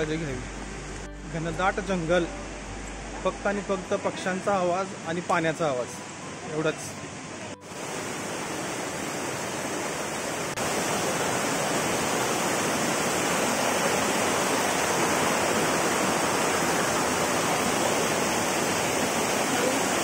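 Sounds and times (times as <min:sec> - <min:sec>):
water rushing in rocky stream: 0:04.0 - 0:20.0.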